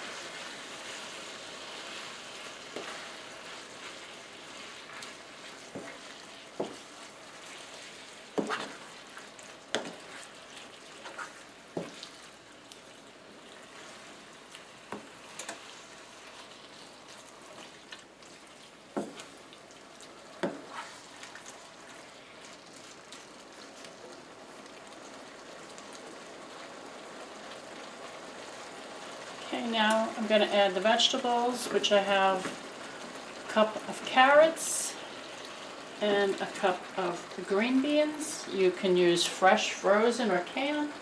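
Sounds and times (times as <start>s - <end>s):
soft sizzle in frying pan: 0.0s - 41.0s.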